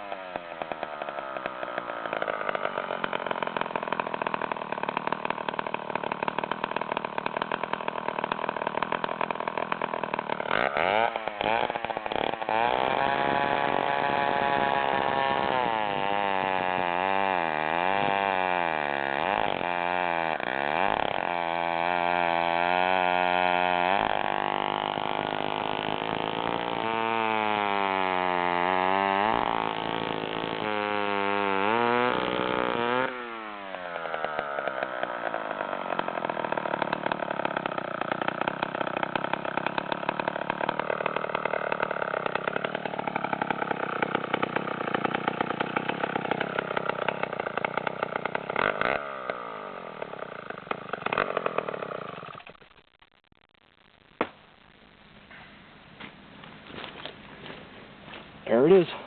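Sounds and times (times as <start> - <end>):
chainsaw idling: 0.0 - 52.7, 56.0 - 59.0
chainsaw cutting wood: 0.0 - 52.9, 54.2 - 54.5, 56.0 - 59.0.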